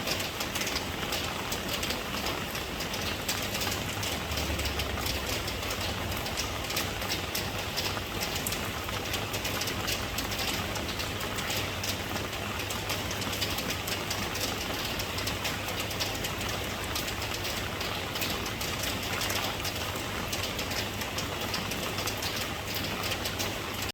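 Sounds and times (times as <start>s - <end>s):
raindrop ticks: 0.0s - 23.9s
steady rain: 0.0s - 23.9s.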